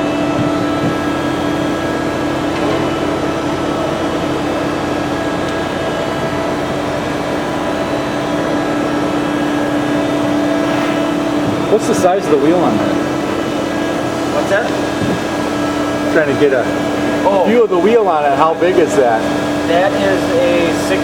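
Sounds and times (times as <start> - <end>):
grinder machine hum: 0.0 - 21.0.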